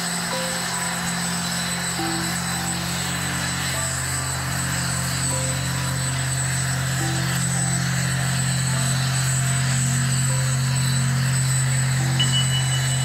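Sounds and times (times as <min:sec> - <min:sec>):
airliner and tug drone: 0:00.0 - 0:13.0.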